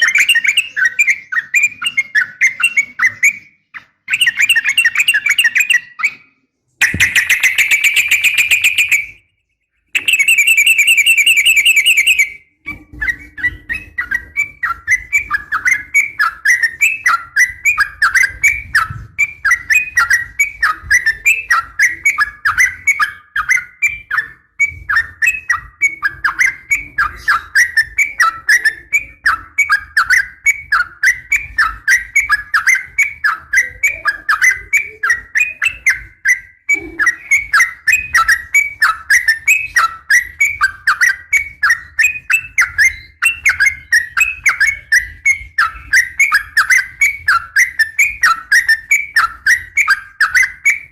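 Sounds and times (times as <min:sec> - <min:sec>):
bird calling with trills and chatter: 0:00.0 - 0:09.3, 0:09.9 - 0:50.9.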